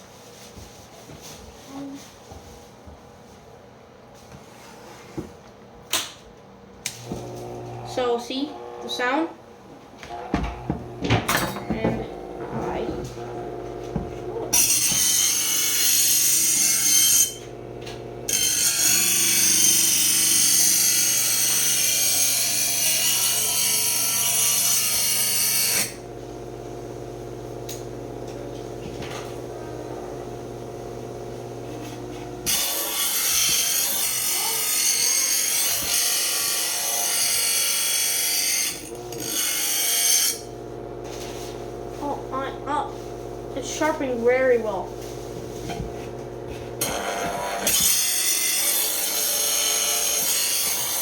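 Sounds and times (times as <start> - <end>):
motor hum: 6.8 - 24.3, 25.0 - 51.0.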